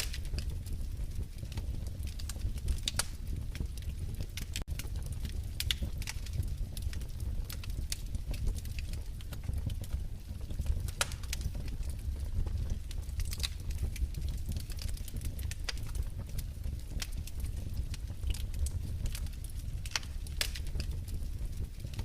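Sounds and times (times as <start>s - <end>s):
fire rumbling: 0.0s - 22.0s
wood fire popping and snapping: 0.0s - 22.0s.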